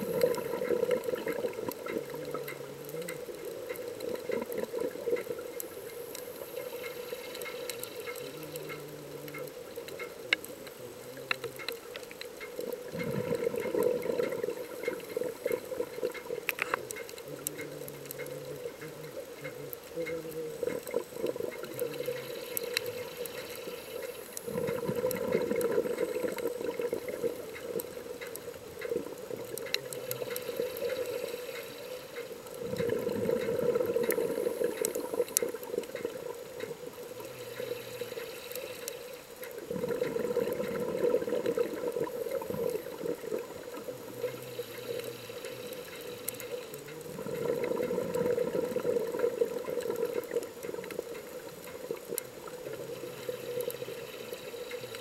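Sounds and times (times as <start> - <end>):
diver's bubbles gurgling: 0.0 - 38.6, 39.4 - 55.0
underwater hiss: 0.0 - 55.0.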